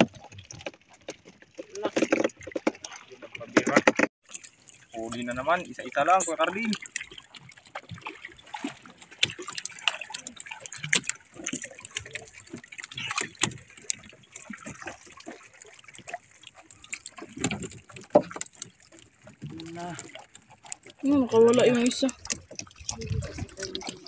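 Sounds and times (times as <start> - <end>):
fish splashing: 0.0 - 24.0
water lapping against boat: 0.0 - 24.0.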